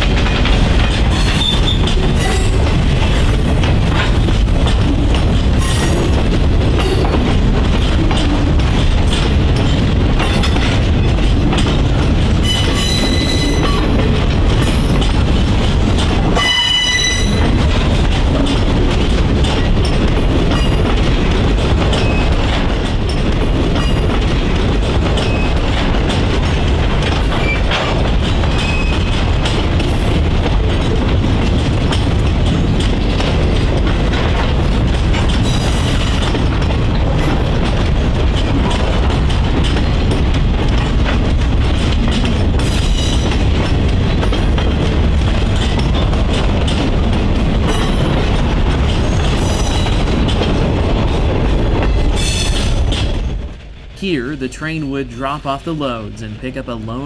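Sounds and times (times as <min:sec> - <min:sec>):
freight train cars clattering: 0:00.0 - 0:57.0.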